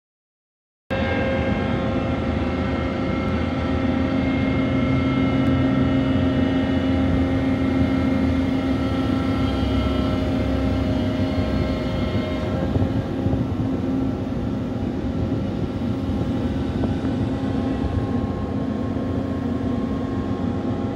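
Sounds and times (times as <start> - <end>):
crane machinery droning: 0.9 - 20.9.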